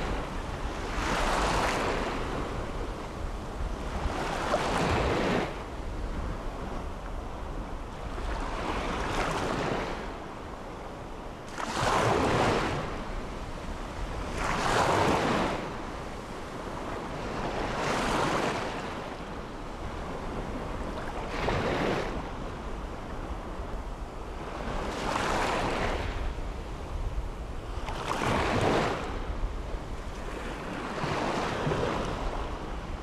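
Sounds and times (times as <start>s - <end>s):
waves washing up a beach: 0.0s - 33.0s
wind rumble on microphone: 0.0s - 33.0s.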